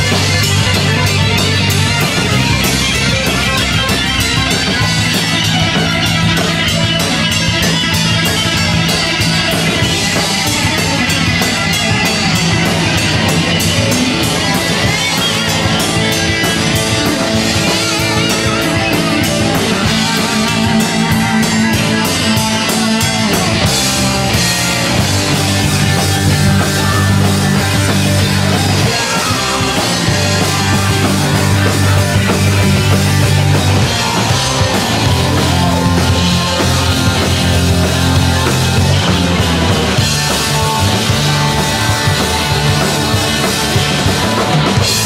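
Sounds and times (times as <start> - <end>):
loud live rock band: 0.0 - 45.0.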